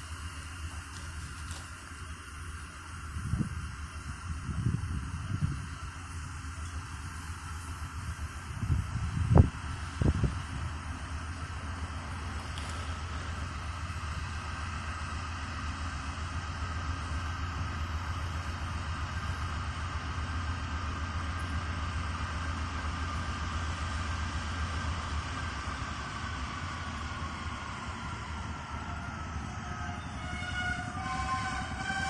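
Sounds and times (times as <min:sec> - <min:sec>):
diesel locomotive engine rumble: 0:00.0 - 0:32.0.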